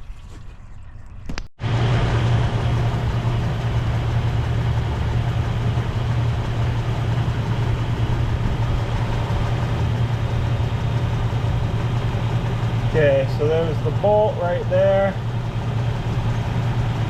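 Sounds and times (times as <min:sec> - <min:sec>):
car engine idling: 0:01.6 - 0:17.0.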